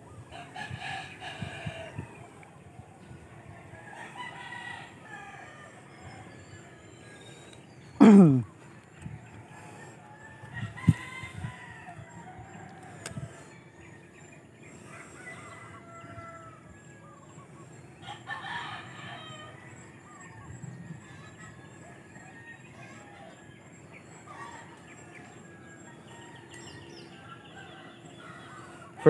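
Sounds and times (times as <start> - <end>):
roosters crowing: 0.2 - 29.0.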